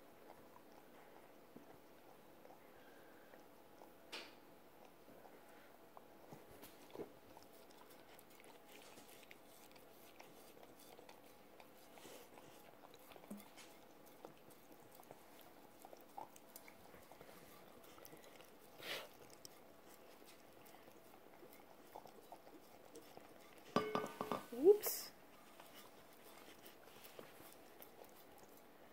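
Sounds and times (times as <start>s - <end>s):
dog licking and chewing: 0.0s - 23.9s, 25.1s - 28.9s.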